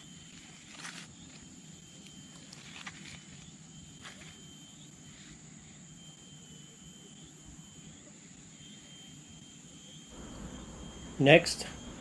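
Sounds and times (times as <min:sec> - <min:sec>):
insect drone: 0:00.0 - 0:12.0
thin high whine: 0:00.0 - 0:12.0.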